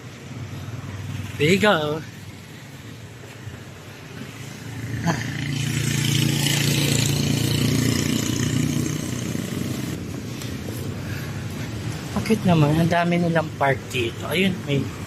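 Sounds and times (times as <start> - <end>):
street traffic noise: 0.0 - 15.0
vehicle engine passing: 0.3 - 13.1.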